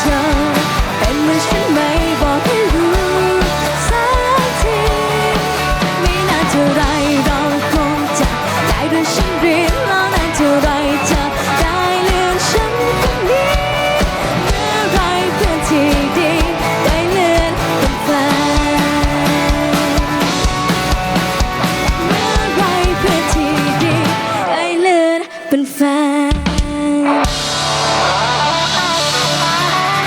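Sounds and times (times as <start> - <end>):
bending lead guitar melody: 0.0 - 25.5, 26.5 - 30.0
pop-rock band playing: 0.0 - 30.0.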